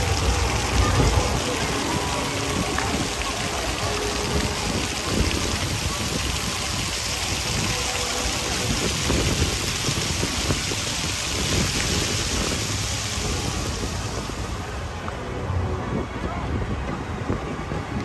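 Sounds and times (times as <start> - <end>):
large outdoor crowd din: 0.0 - 18.0.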